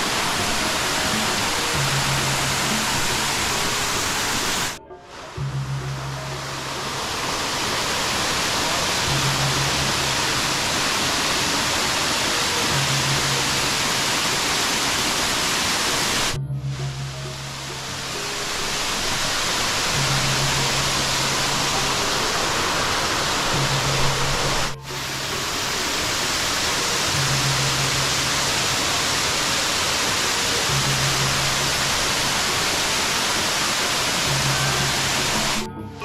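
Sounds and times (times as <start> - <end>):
music with low held notes: 0.0 - 36.0
waterfall rushing: 0.0 - 36.0.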